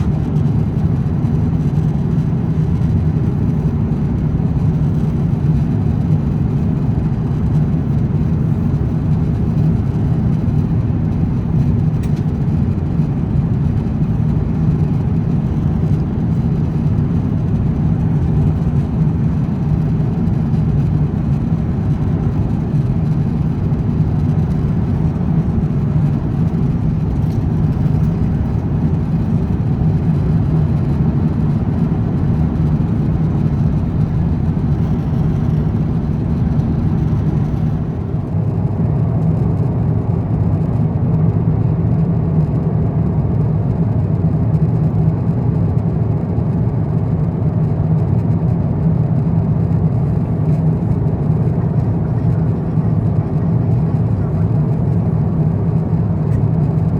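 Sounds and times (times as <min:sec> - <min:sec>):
airliner cabin noise: 0:00.0 - 0:56.9.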